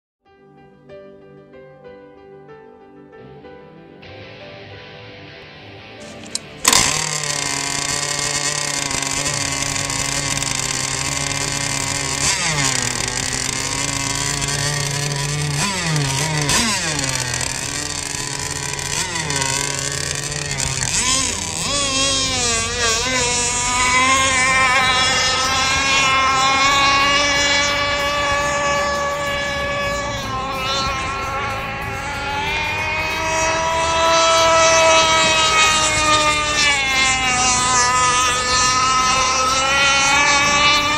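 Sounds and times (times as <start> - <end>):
model boat engine running: 6.1 - 40.9.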